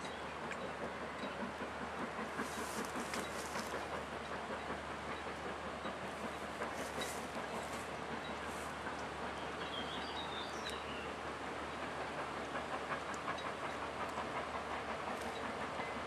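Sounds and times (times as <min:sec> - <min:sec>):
steam locomotive exhaust rumble: 0:00.0 - 0:16.0
train coaches running on track: 0:00.0 - 0:16.0.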